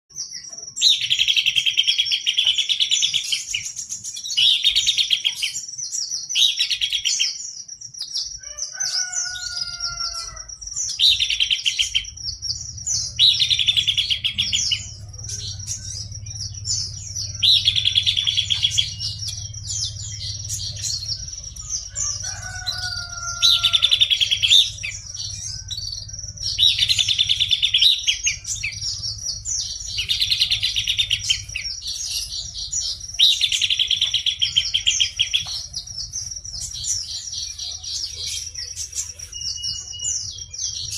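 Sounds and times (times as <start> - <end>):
bird singing trilled phrases: 0.1 - 40.9.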